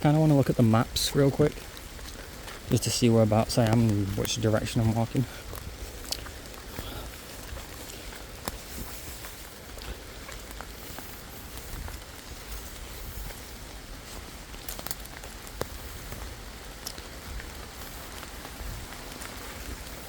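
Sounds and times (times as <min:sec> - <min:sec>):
rain patter: 0:00.0 - 0:20.0.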